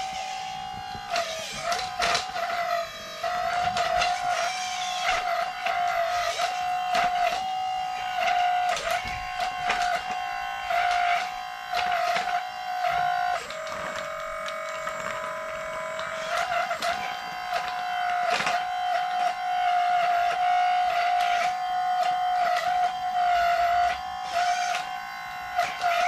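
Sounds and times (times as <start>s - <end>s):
small electric motor whining: 0.0s - 26.0s
clicking of model moving parts: 0.1s - 26.0s.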